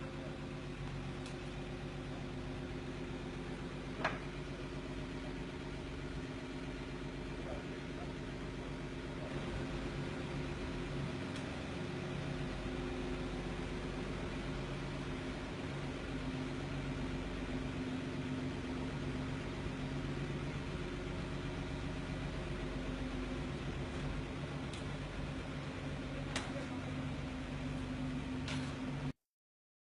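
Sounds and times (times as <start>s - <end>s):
engine idling: 0.0s - 29.1s.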